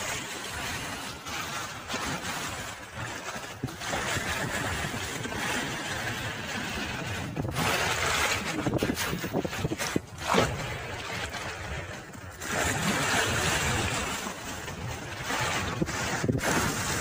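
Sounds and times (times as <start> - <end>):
sea waves splashing against rocks: 0.0 - 17.0.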